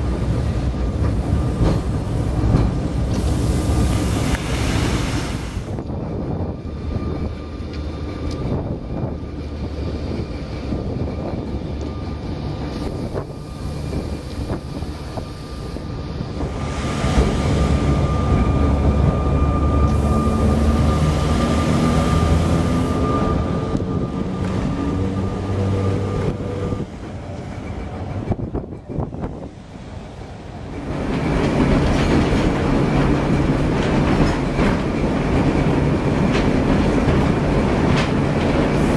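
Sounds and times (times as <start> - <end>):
electric tram rumbling on rails: 0.0 - 38.9.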